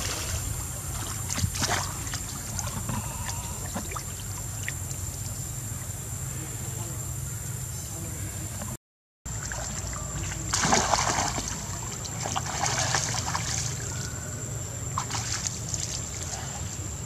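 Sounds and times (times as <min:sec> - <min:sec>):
water splashing: 0:00.0 - 0:06.4, 0:09.3 - 0:17.0.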